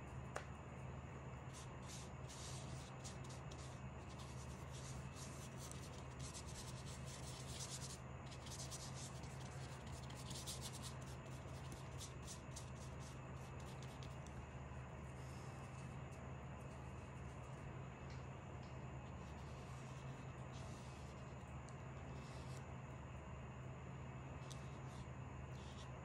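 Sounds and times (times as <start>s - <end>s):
steady low hum: 0.0s - 26.0s
paintbrush strokes on paper: 1.4s - 17.7s, 18.6s - 22.6s, 24.4s - 25.9s.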